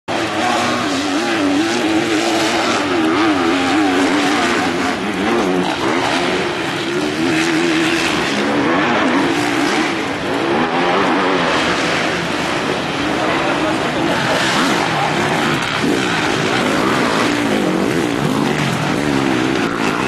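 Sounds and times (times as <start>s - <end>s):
dirt bike engines revving: 0.1s - 20.0s.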